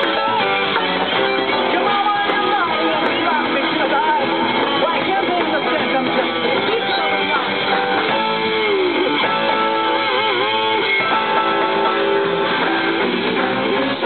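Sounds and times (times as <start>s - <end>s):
electric guitar with vibrato: 0.0s - 14.0s
live rock band playing: 0.0s - 14.0s.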